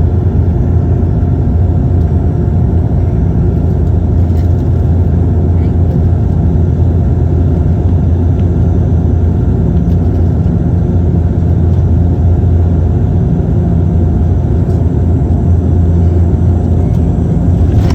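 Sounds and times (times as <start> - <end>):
turboprop engines droning: 0.0 - 17.9.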